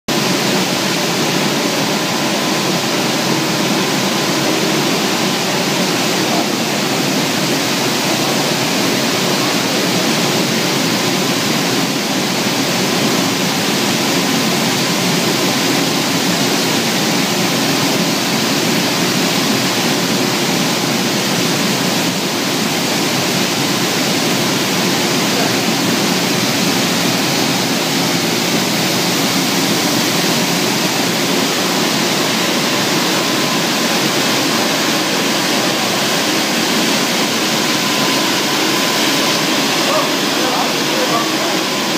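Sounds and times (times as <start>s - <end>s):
water churning and spraying: 0.1s - 41.9s.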